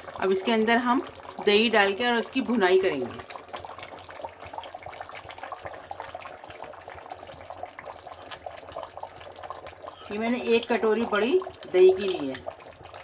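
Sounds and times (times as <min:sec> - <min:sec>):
gravy bubbling in a pot: 0:00.0 - 0:13.0.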